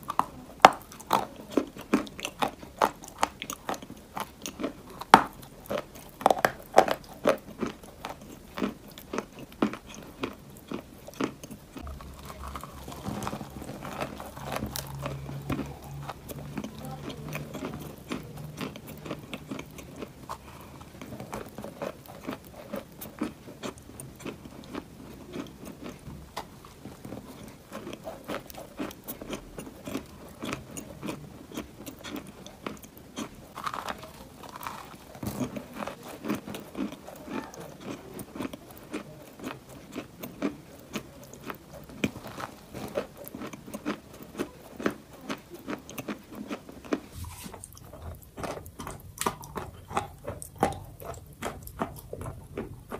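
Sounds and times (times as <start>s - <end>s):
chewing crunchy clay: 0.0s - 52.9s.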